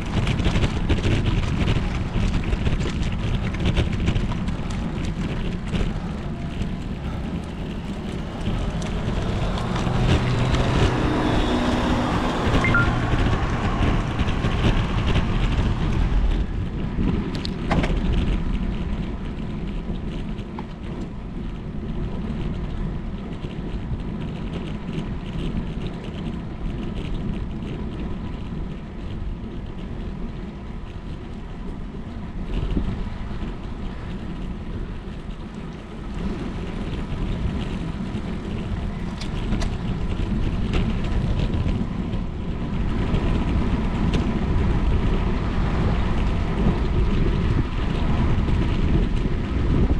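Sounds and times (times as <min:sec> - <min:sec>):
rain: 0:00.0 - 0:49.9
wind buffeting microphone: 0:00.0 - 0:49.9.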